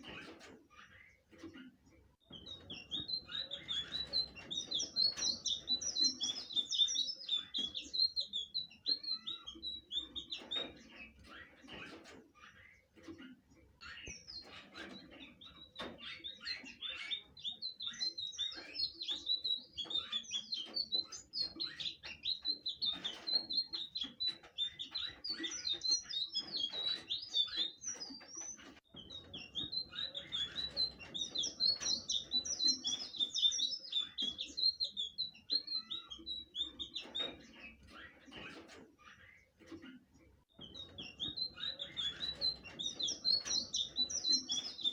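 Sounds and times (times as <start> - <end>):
bird chattering with chirps and trills: 0.0 - 44.9.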